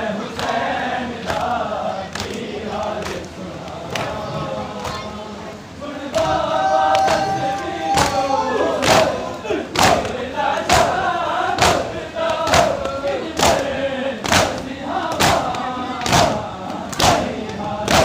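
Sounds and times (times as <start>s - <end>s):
group of voices chanting: 0.0s - 18.0s.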